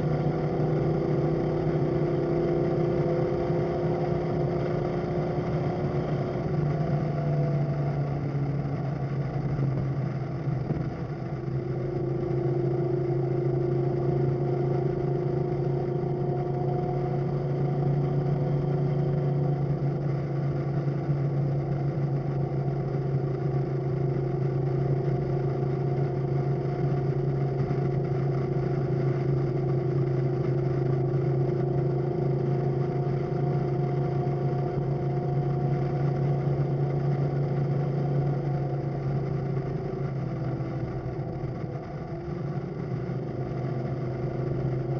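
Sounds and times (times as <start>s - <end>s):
engine droning under way: 0.0s - 44.9s.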